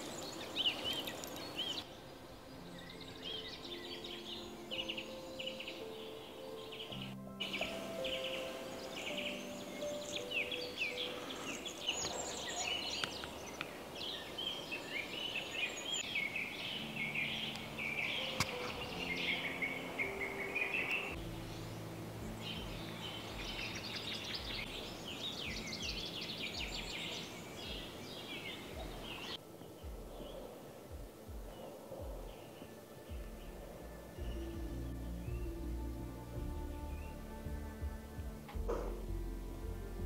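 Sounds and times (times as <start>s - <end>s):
songbirds chirping and trilling: 0.0s - 40.0s.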